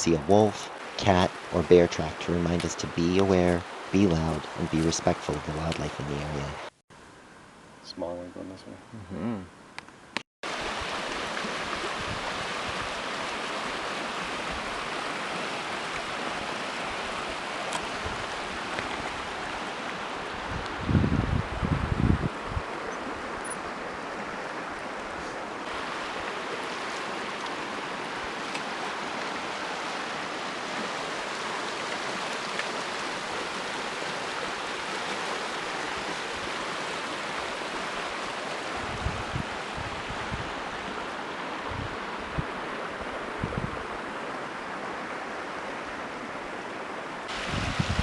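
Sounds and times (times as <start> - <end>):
creek water rushing: 0.0 - 6.7, 10.4 - 48.0.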